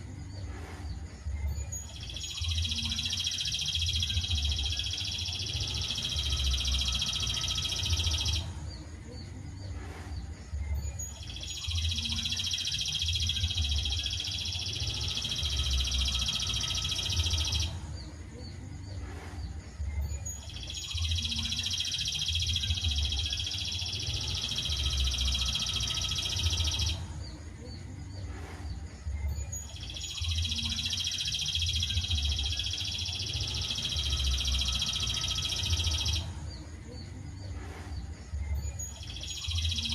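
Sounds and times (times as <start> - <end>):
songbird trill: 0.0 - 39.9.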